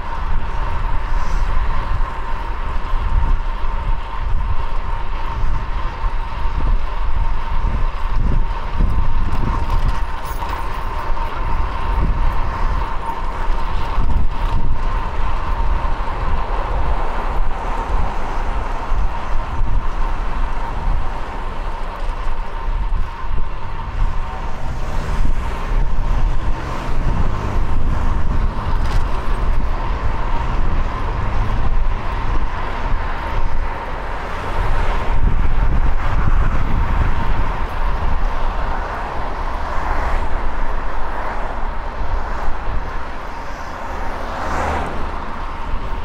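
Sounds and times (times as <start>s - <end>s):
road and vehicle noise: 0.0s - 46.0s
wind rumbling on microphone: 0.0s - 46.0s.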